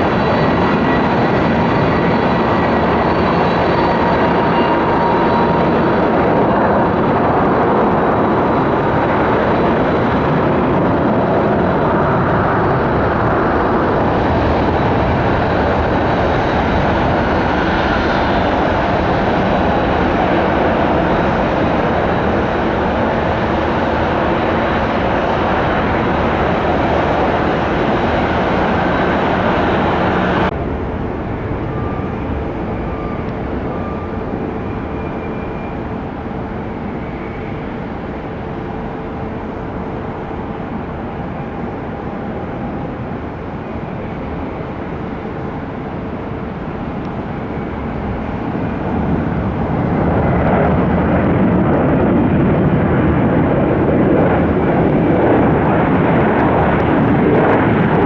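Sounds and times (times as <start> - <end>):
distant jet roar: 0.0 - 58.0
jet airliner engine roar: 0.0 - 58.0.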